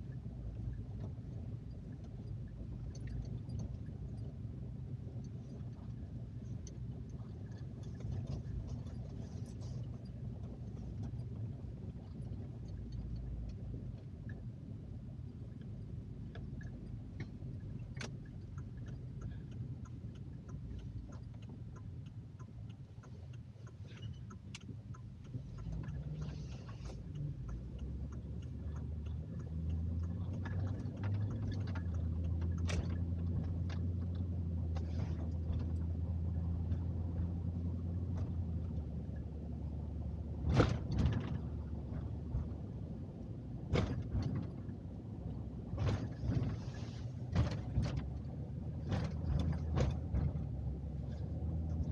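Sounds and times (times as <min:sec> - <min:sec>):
road and engine rumble: 0:00.0 - 0:51.9.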